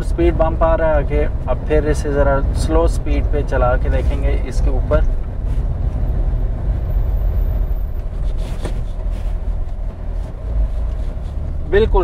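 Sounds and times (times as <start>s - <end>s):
van engine and tyres rumbling: 0.0s - 12.0s.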